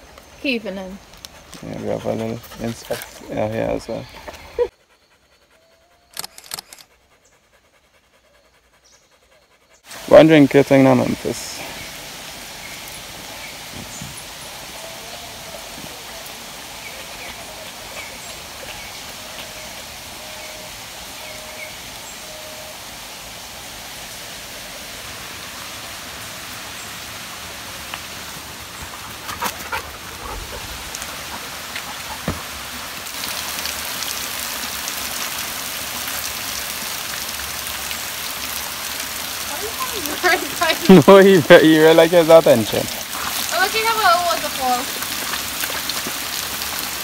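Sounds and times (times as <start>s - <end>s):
waterfall trickling over rocks: 0.0s - 4.7s, 9.8s - 47.0s.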